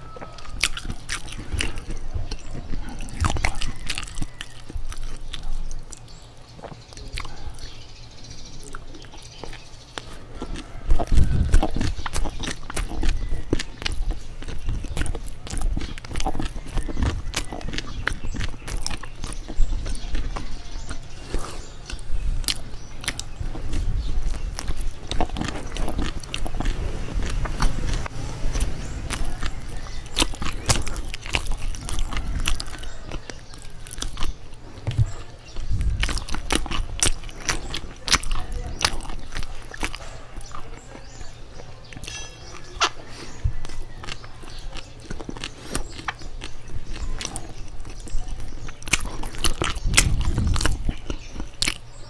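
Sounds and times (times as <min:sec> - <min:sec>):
person chewing bread: 0:00.0 - 0:52.0.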